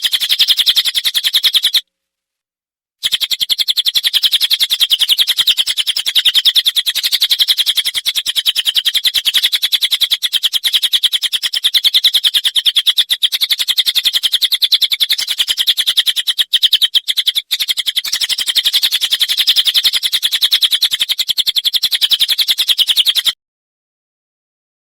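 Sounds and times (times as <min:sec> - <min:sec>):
bird singing fast trill: 0:00.0 - 0:01.8, 0:03.0 - 0:23.4.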